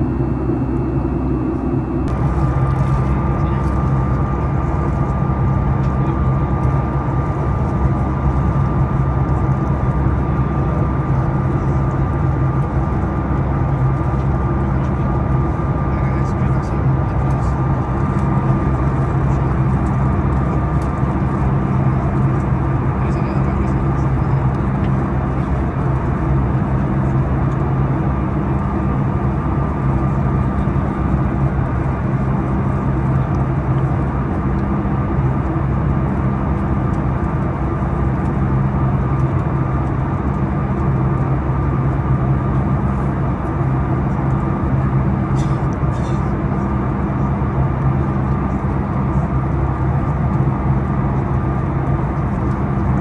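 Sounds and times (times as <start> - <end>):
airplane engine hum: 0.0 - 53.0.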